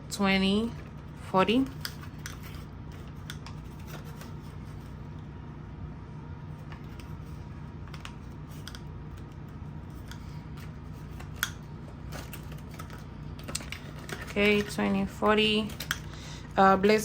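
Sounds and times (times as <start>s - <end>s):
banknotes rustling: 0.3s - 5.2s, 6.5s - 17.0s.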